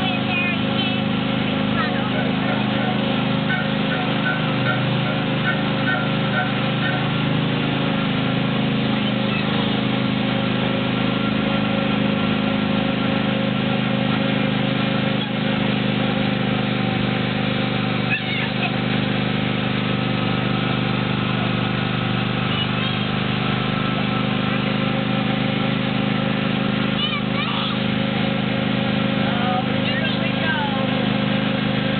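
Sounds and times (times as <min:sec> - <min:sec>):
small engine droning: 0:00.0 - 0:31.9.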